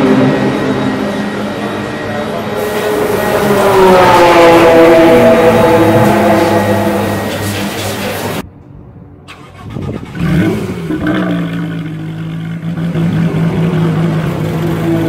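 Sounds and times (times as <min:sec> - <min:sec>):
car engine running: 0:00.0 - 0:08.4, 0:10.0 - 0:15.0
engine revving: 0:00.0 - 0:08.4, 0:09.4 - 0:15.0.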